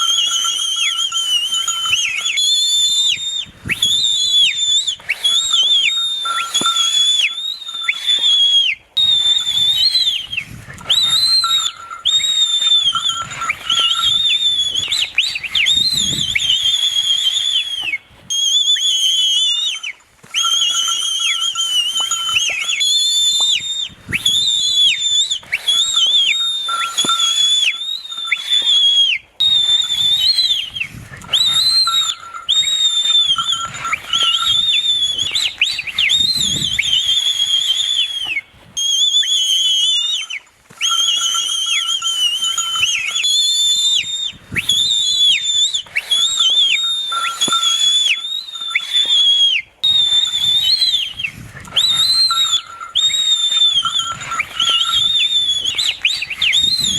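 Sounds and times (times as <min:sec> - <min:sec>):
loud shrill whistling: 0:00.0 - 0:56.9.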